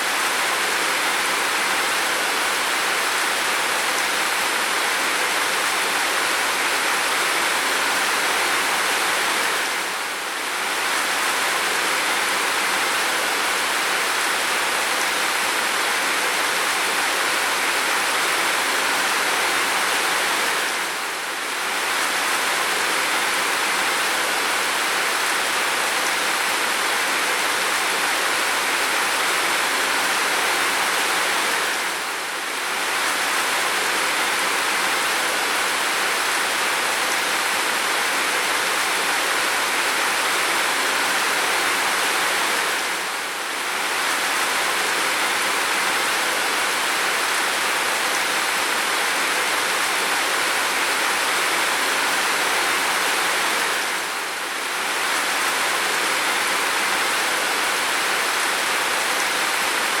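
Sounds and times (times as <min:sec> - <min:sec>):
pounding rain: 0:00.0 - 1:00.0.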